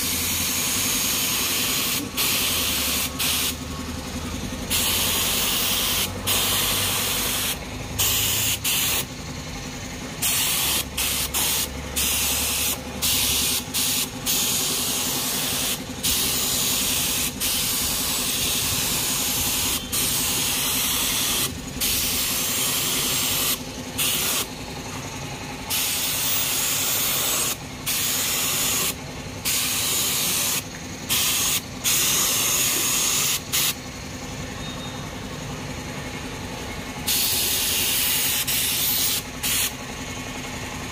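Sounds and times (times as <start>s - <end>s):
spray gun hissing: 0.0s - 3.6s, 4.7s - 9.1s, 10.2s - 24.5s, 25.7s - 33.8s, 37.1s - 39.7s.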